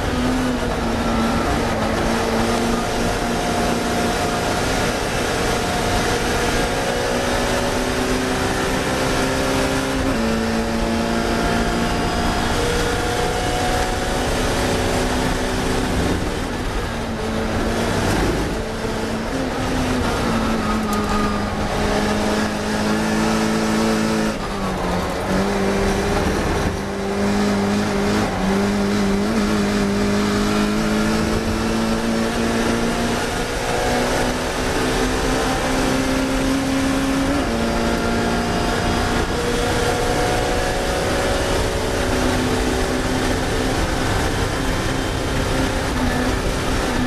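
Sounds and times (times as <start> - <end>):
racing car engine: 0.0 - 47.0.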